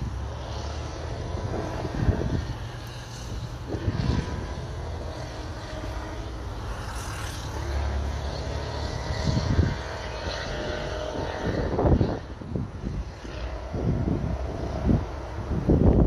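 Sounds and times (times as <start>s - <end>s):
distant jet engines rumbling: 0.0s - 16.0s
wind buffeting microphone: 0.0s - 16.0s.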